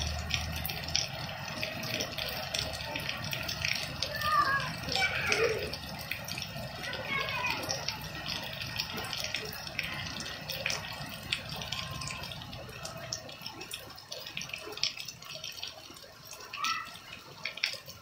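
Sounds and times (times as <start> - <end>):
heavy rain on paving stones: 0.0 - 18.0
rain splashing into puddles: 0.0 - 18.0.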